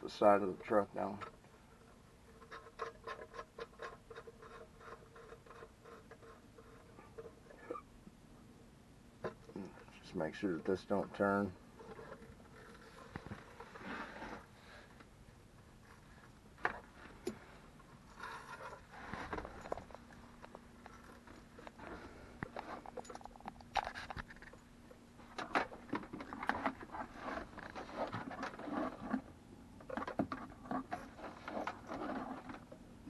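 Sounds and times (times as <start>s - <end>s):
cables rustling and scraping: 0.0s - 7.8s, 9.2s - 33.0s
faint steady hum: 0.0s - 33.0s.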